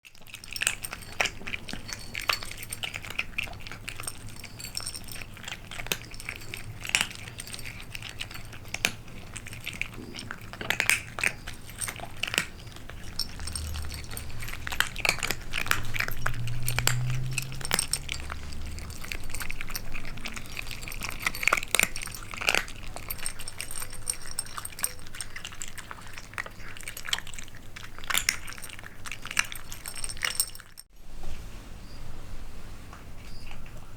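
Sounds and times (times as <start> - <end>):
kittens clicking and scratching: 0.0 - 30.9.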